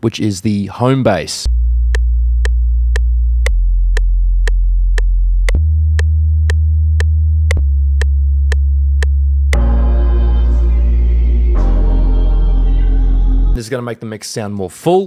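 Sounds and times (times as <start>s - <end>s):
synth sub bass notes: 1.4s - 13.6s.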